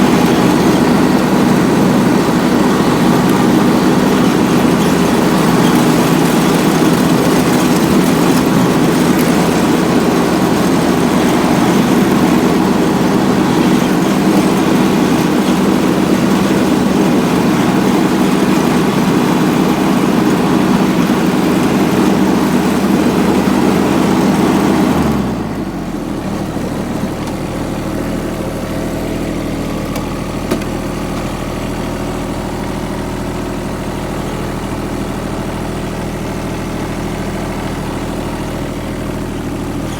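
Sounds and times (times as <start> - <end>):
diesel mower engine running: 0.0 - 39.9.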